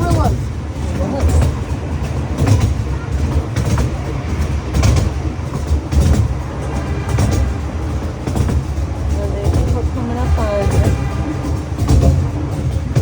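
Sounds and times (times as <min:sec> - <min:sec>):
train rumbling on track: 0:00.0 - 0:13.0
wheels clicking over rail joints: 0:00.0 - 0:13.0.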